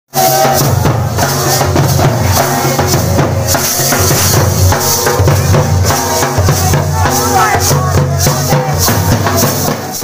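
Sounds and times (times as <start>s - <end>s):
loud music with drums: 0.1s - 10.0s.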